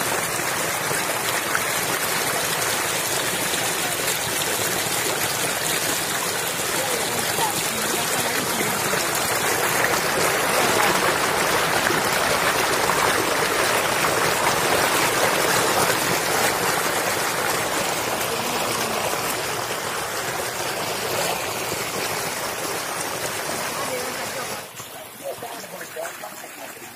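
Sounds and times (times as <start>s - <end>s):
stream water rushing over stones: 0.0s - 26.9s.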